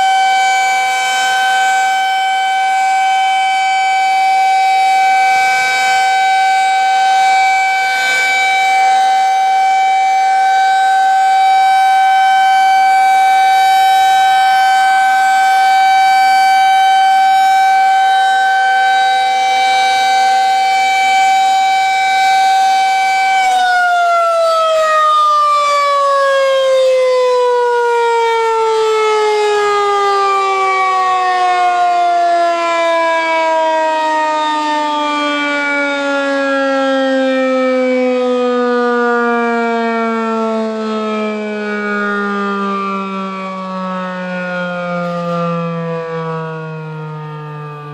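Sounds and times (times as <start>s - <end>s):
tornado siren alert tone: 0.0s - 47.9s.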